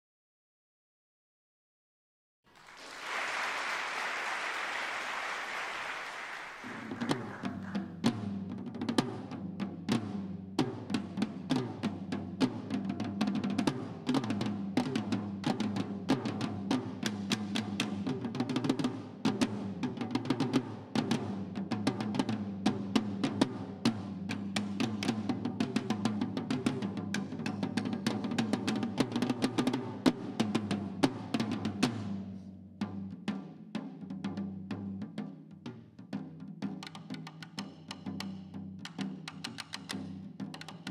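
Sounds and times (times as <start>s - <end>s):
snare drums played with sticks: 5.7s - 40.9s.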